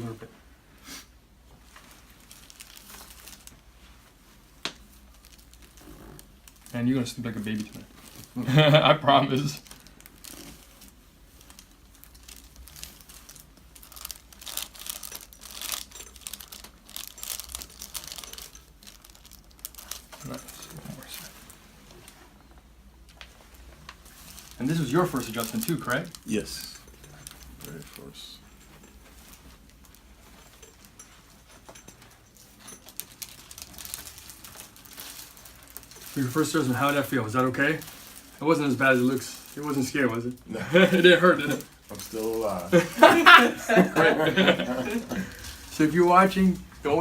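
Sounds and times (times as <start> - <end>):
faint rustling: 0.0 - 47.0
paper table cover crinkling: 1.6 - 22.4, 23.1 - 47.0.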